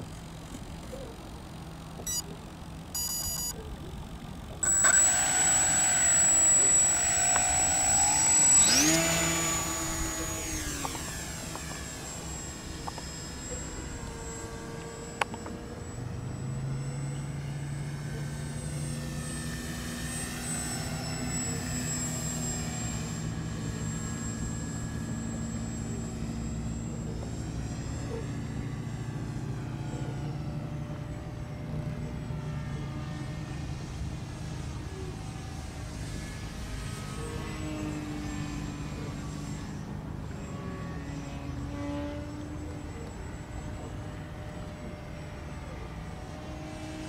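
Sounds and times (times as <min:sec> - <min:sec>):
model plane motor whine: 0:00.0 - 0:47.0.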